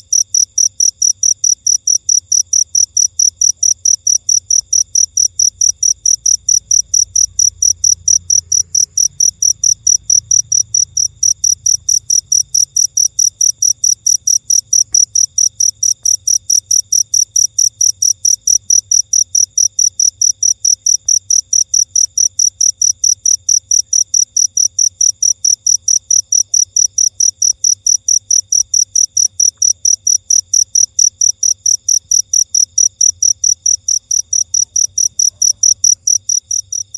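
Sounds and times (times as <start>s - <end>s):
cricket chirping: 0.0s - 36.9s.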